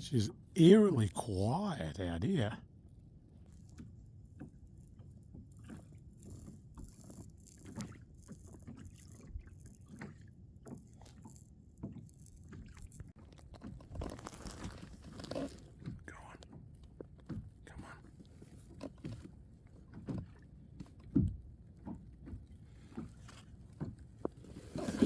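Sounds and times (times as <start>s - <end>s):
water lapping against kayak hull: 0.0s - 25.0s.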